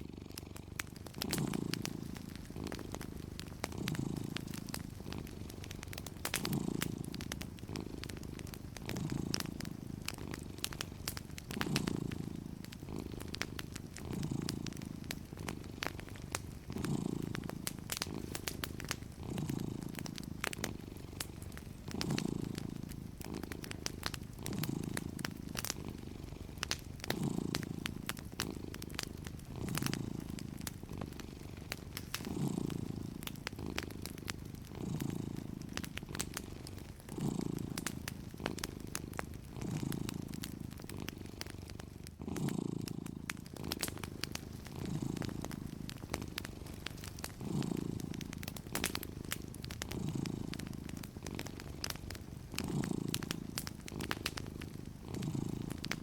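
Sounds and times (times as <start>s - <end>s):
cat purring: 0.0s - 56.0s
wood fire crackling: 0.0s - 56.0s.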